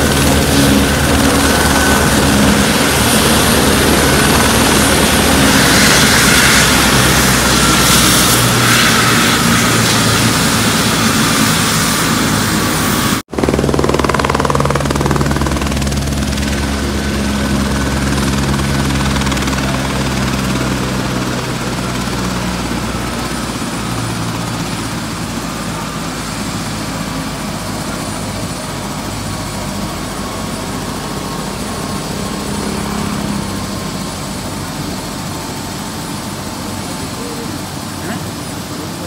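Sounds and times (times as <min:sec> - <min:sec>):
helicopter rotor beat: 0:00.0 - 0:39.0
helicopter turbine whine: 0:00.0 - 0:39.0.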